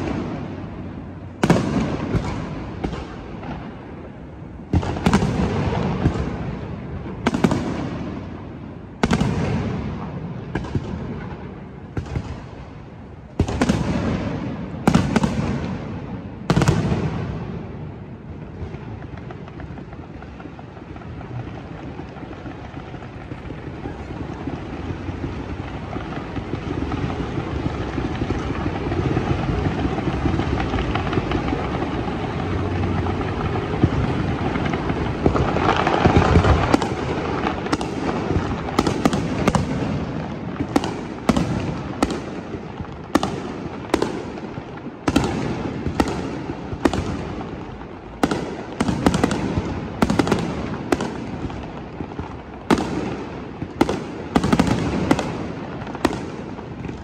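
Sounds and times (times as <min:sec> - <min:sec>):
sharp firework bangs: 0:00.0 - 0:12.8, 0:13.4 - 0:20.5, 0:22.2 - 0:57.0
fireworks rumble and crackle: 0:00.0 - 0:57.0.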